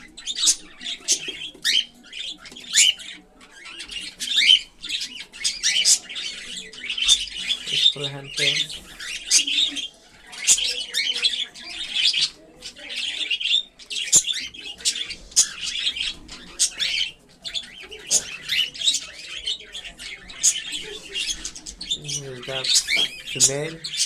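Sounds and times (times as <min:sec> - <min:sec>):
cockatiels chirping harshly: 0:00.0 - 0:24.0.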